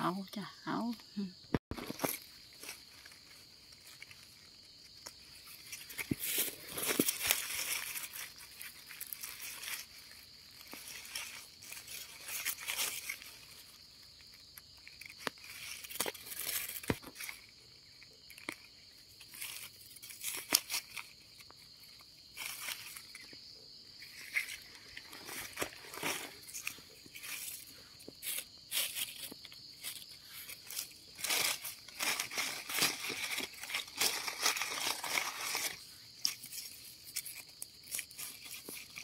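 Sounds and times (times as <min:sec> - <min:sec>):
insects chirring: 0:00.0 - 0:39.0
dry leaves rustling and snapping: 0:01.7 - 0:39.0.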